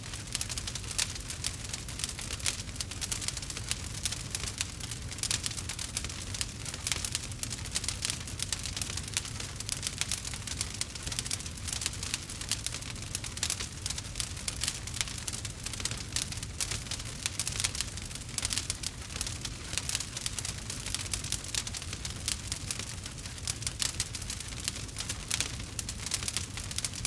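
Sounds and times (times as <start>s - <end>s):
log fire crackling: 0.0s - 27.0s.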